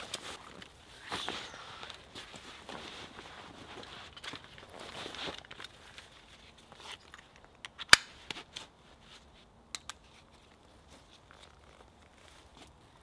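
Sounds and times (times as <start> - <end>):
straps and fabric rustling: 0.0 - 7.3, 8.3 - 13.0.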